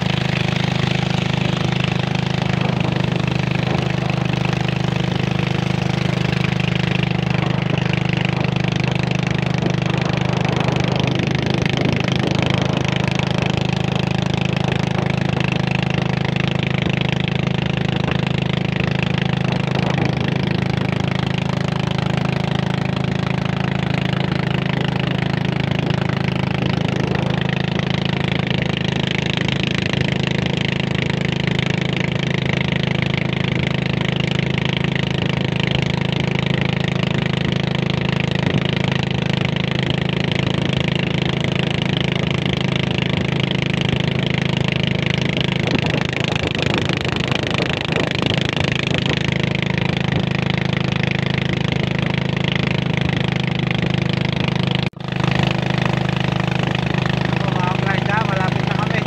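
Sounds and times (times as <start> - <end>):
boat engine droning: 0.0 - 59.0
water rushing along hull: 0.0 - 59.0.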